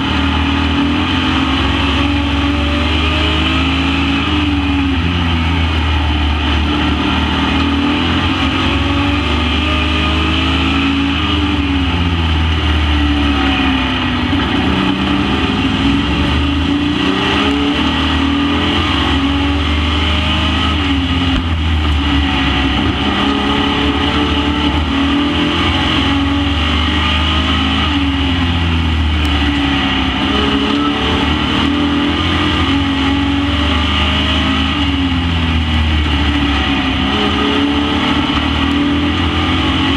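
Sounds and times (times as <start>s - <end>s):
race truck engines revving: 0.0s - 39.9s.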